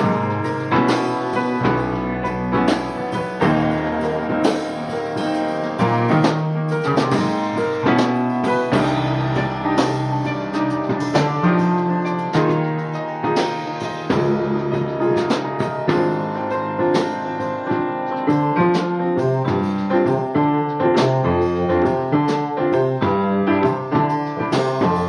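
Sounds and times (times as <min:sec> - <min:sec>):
drum kit beat: 0:00.0 - 0:25.0.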